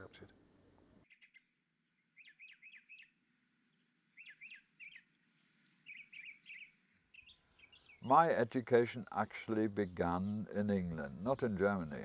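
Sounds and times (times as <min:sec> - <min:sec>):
small bird chirping faintly: 0:01.0 - 0:12.0.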